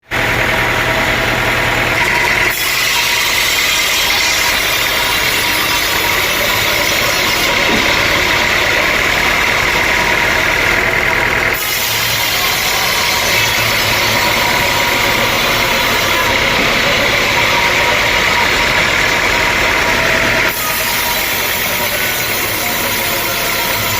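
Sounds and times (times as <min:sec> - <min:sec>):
high machine whine: 0:00.0 - 0:23.9
sawmill machinery drone: 0:00.0 - 0:23.9.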